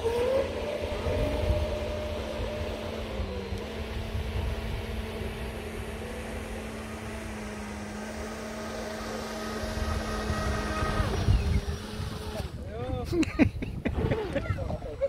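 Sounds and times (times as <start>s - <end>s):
model boat motor whining: 0.0s - 12.7s.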